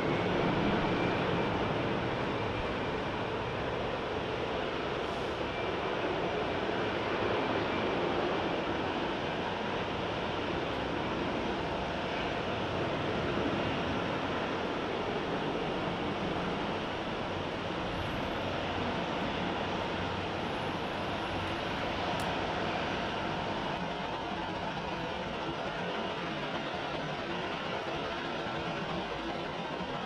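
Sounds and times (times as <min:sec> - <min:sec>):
jet airliner engines running: 0:00.0 - 0:30.0.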